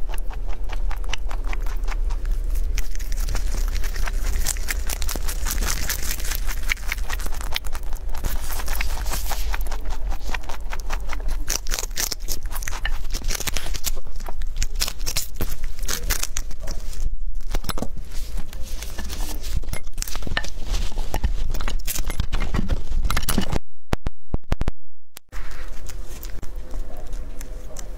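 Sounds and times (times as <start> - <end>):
rabbit chewing crunchy celery: 0.0 - 23.3, 25.3 - 27.9.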